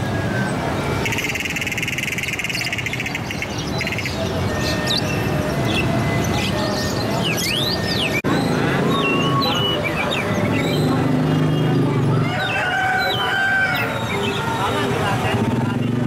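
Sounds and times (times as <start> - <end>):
low background hubbub: 0.0 - 16.0
songbirds chirping and whistling: 0.2 - 16.0.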